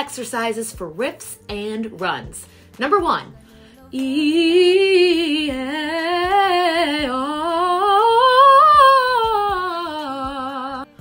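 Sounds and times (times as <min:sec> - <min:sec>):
woman singing vocal warm-up riff: 0:01.1 - 0:11.0.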